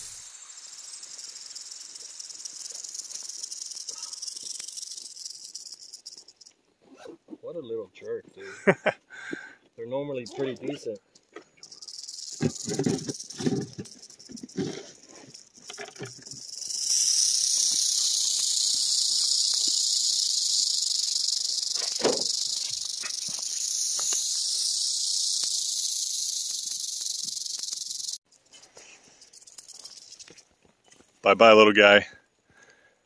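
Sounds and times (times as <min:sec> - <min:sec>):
rattlesnake tail rattle buzzing: 0:00.0 - 0:06.6, 0:10.2 - 0:30.5.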